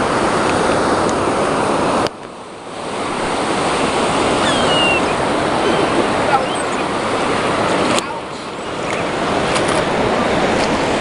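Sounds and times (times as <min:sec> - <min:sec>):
surf washing on shore: 0:00.0 - 0:11.0
wind on microphone: 0:00.0 - 0:11.0.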